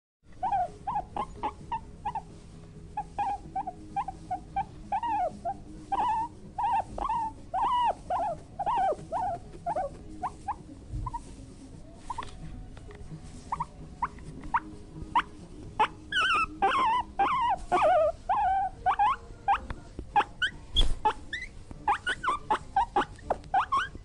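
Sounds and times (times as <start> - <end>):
bear cubs squealing: 0.4 - 2.3, 3.0 - 11.2, 13.5 - 24.0.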